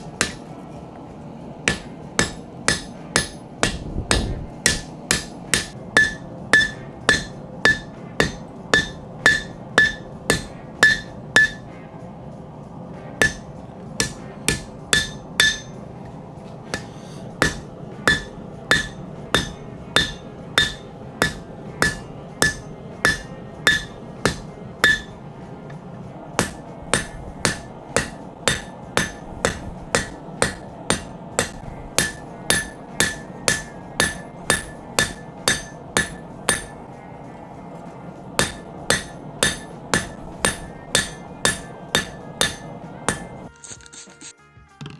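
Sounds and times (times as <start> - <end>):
hammer ringing on anvil: 0.0 - 0.5, 1.7 - 11.8, 13.2 - 25.8, 26.4 - 43.5.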